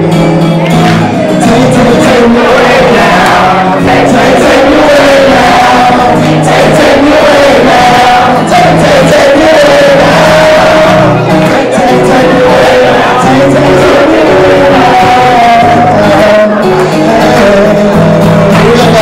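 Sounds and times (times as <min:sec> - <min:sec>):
crowd singing along: 0:00.0 - 0:19.0
live song in a hall: 0:00.0 - 0:19.0.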